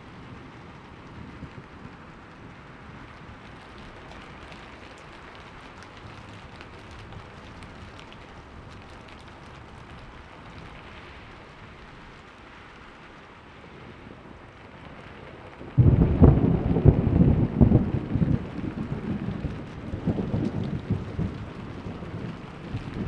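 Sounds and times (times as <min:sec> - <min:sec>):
raindrops ticking: 0:00.0 - 0:13.5, 0:14.1 - 0:23.0
steady rain hissing: 0:00.0 - 0:23.0.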